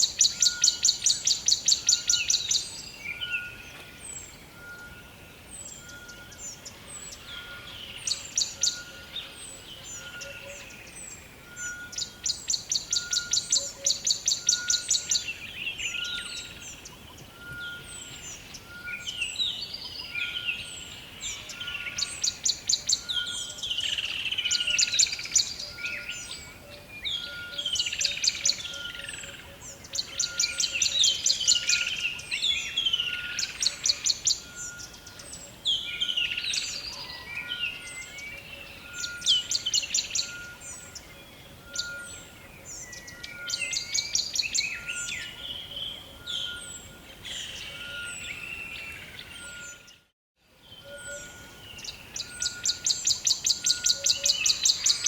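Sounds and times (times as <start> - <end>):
birds calling: 0.0 - 50.1, 50.7 - 55.0.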